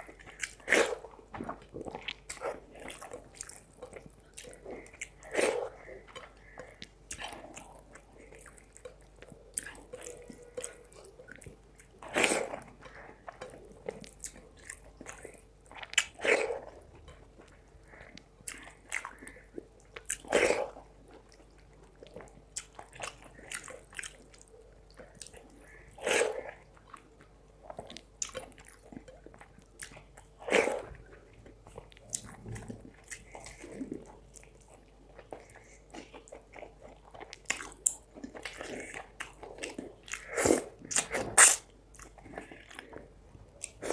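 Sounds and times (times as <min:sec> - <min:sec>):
chewing and wet mouth sounds: 0:00.0 - 0:43.9.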